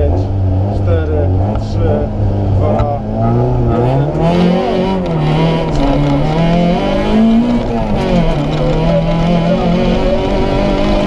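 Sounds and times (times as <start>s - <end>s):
car engine revving hard: 0.0s - 11.0s.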